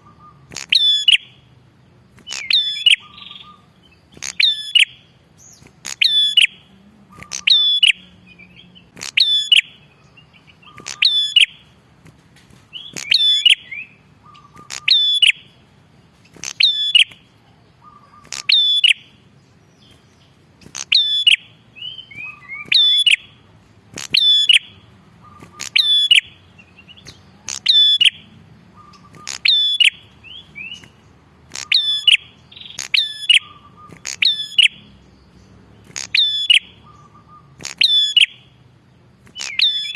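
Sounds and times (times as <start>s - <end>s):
songbird calling: 0.0s - 39.9s.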